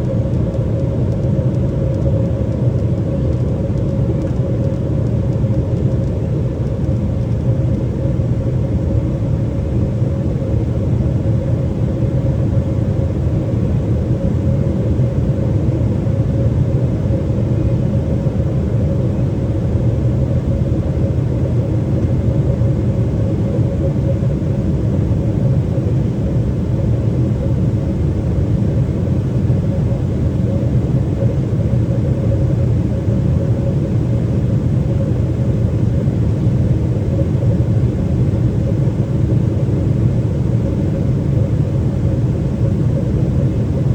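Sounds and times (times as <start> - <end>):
airplane cabin drone: 0.0 - 43.9
steady hum-like tone: 0.0 - 43.9.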